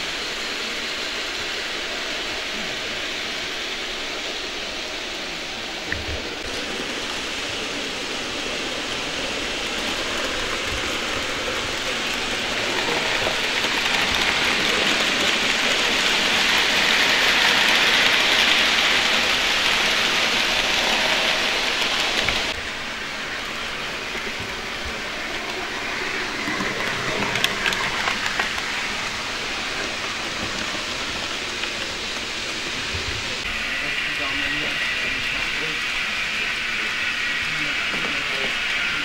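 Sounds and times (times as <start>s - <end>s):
model trains rolling on track: 0.0s - 39.0s.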